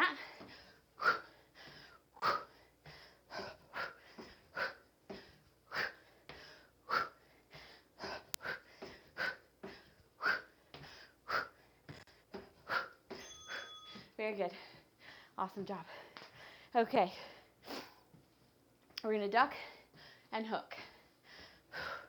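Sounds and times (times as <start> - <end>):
person breathing hard: 0.2 - 18.0, 19.6 - 22.0.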